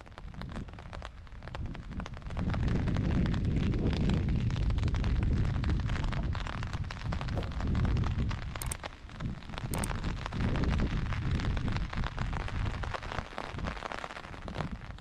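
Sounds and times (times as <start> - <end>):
rain pattering: 0.0 - 15.0
wind buffeting microphone: 0.0 - 15.0.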